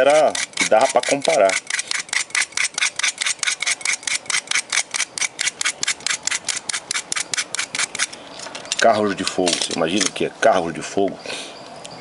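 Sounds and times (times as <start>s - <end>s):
wire lead being scraped: 0.0s - 10.1s.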